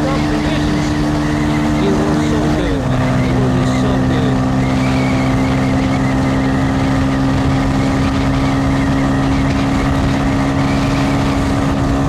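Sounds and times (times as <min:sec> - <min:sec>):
motorcycle engine cruising: 0:00.0 - 0:12.0
wind rumbling on microphone: 0:00.0 - 0:12.0.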